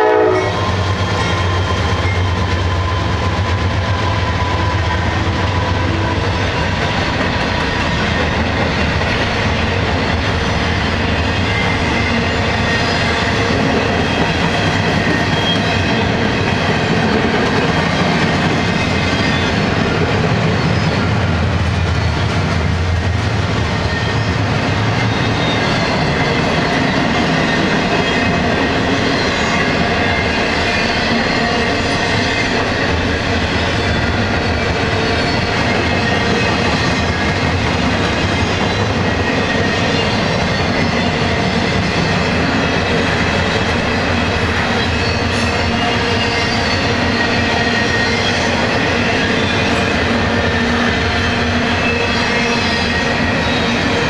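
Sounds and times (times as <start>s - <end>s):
diesel locomotives passing: 0.0s - 54.0s
clickety-clack over rail joints: 0.2s - 54.0s.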